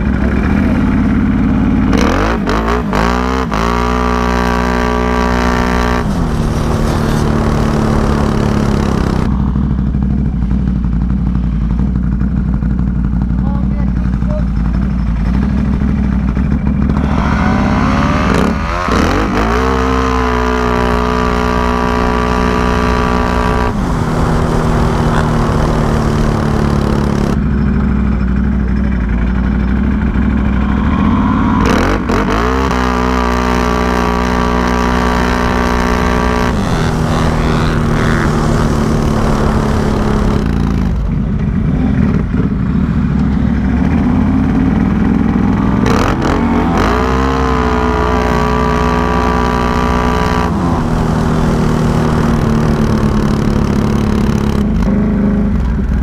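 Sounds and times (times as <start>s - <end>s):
engine revving at full throttle: 0.0s - 10.1s, 15.3s - 28.1s, 29.0s - 56.0s.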